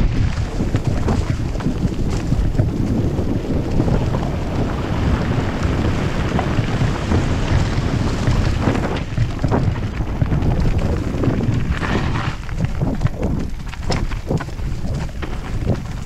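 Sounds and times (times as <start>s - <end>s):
bike knocking over stones: 0.0s - 16.0s
bike tyre rumble: 0.0s - 16.0s
wind buffeting microphone: 0.0s - 16.0s.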